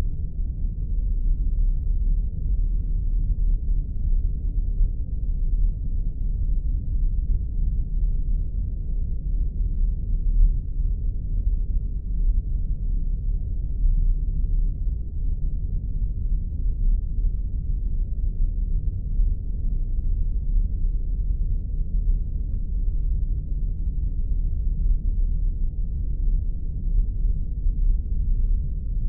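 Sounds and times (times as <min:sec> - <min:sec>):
deep spaceship engine rumble: 0:00.0 - 0:29.0.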